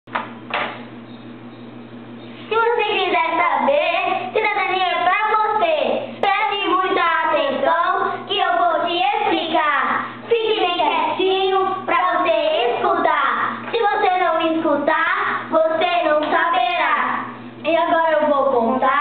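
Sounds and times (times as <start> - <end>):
faint low hum: 0.1 - 19.0.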